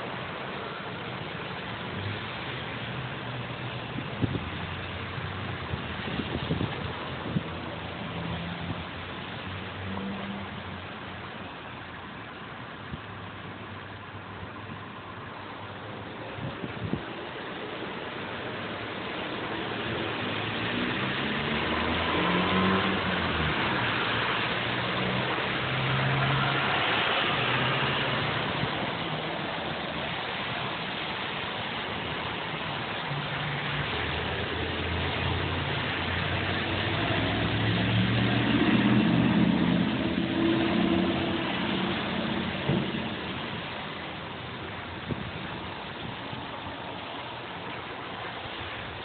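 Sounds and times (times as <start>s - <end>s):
car engines: 0.0s - 49.0s
tyres hissing on wet pavement: 0.0s - 49.0s.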